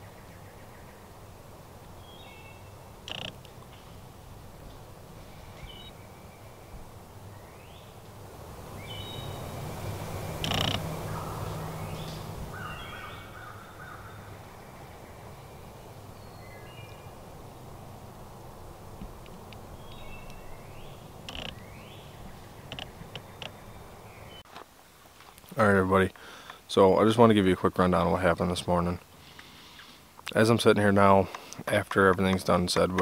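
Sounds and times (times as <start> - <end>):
birds chirping: 0.0 - 24.5, 25.6 - 33.0.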